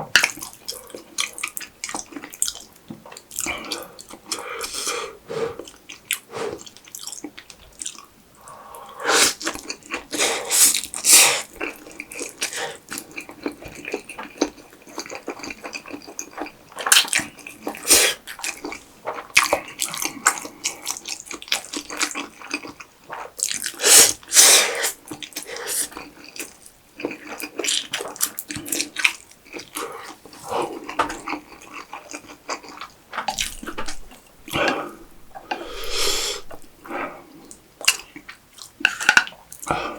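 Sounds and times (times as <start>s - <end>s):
wet chewing: 0.2s - 8.1s, 9.4s - 39.8s.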